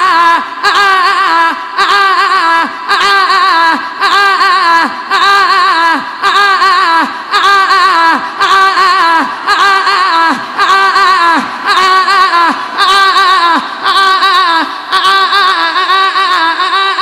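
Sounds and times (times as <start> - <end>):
woman chanting into microphone: 0.0 - 17.0.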